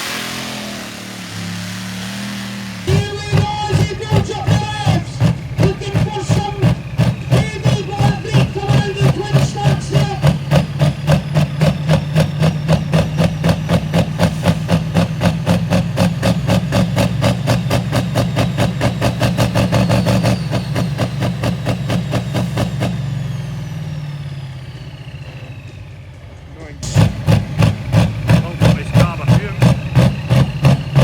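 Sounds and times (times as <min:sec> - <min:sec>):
tractor engine idling: 0:01.0 - 0:31.0.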